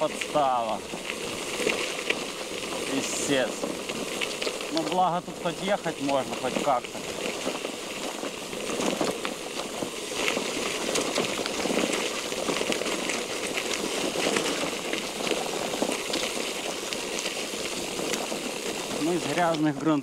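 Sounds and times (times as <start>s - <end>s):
bicycle tyres rolling on cobblestones: 0.0s - 20.0s
light rain: 0.0s - 20.0s.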